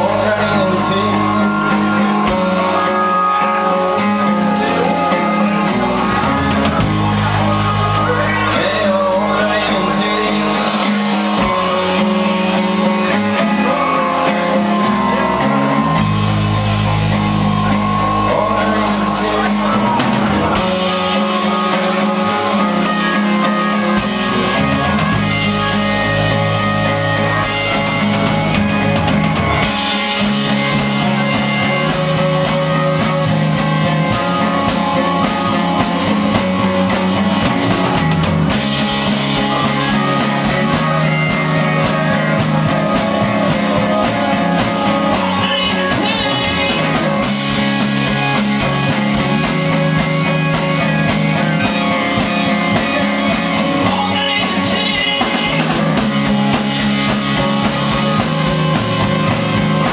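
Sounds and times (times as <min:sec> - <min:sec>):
bass guitar line: 0:00.0 - 0:59.9
drum kit beat: 0:00.0 - 0:59.9
keyboard: 0:00.0 - 0:59.9.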